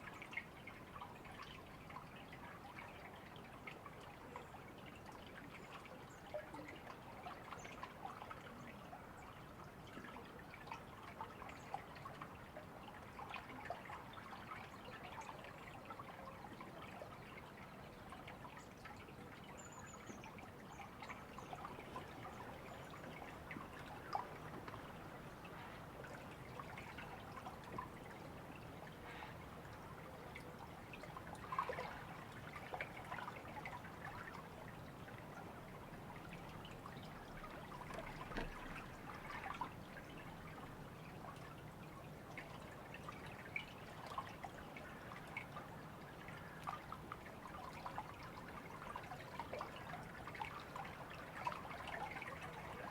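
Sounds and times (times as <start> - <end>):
small stream running: 0.0 - 52.9.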